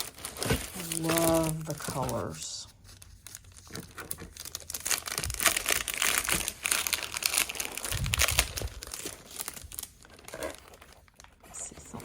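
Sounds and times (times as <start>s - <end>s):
packaging and paper rustling: 0.0s - 12.0s.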